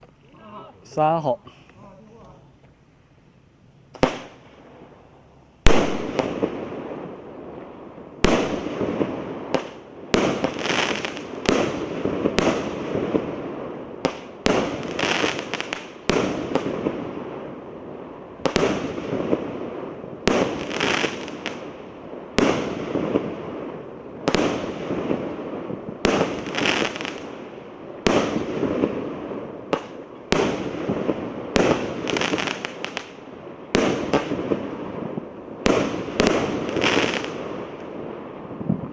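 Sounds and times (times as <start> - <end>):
firework bangs: 3.9 - 38.9.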